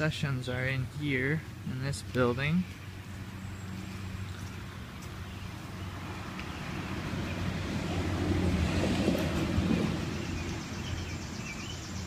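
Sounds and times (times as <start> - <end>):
vehicle passing by: 1.9 - 12.0.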